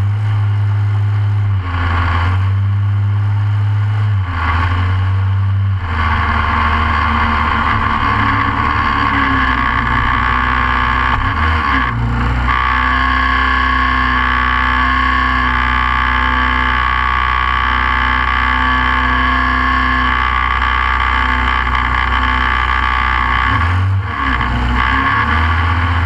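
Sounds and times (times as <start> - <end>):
kart engine running: 0.0 - 26.0.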